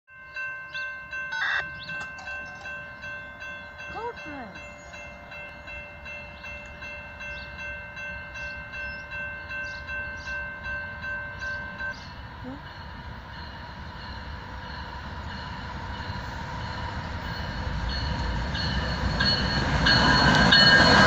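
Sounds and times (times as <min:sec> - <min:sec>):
crossing warning bell ringing: 0:00.1 - 0:21.0.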